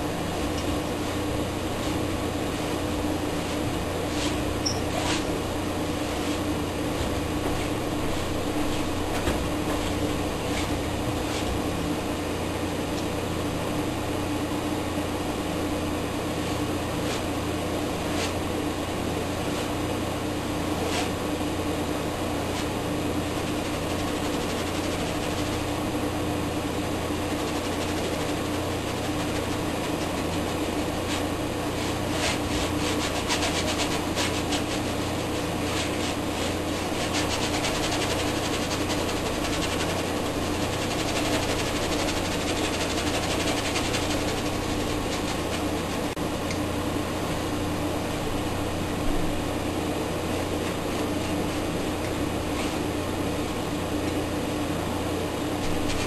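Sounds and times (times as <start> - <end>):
mechanical hum and hiss: 0.0 - 56.0.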